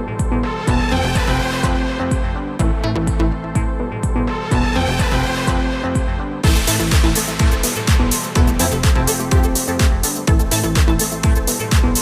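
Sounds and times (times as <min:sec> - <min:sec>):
kick drum: 0:00.0 - 0:12.0
sustained synth chords: 0:00.0 - 0:12.0.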